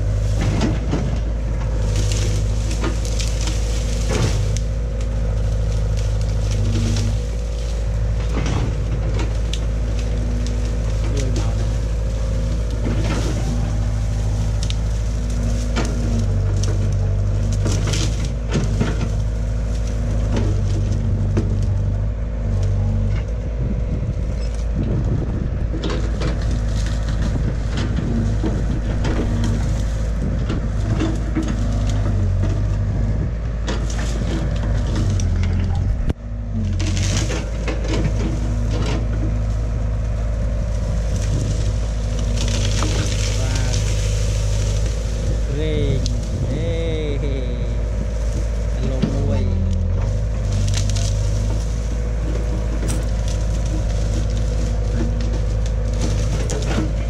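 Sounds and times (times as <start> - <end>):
branches cracking and snapping: 0.0 - 57.0
excavator diesel engine running: 0.0 - 57.0.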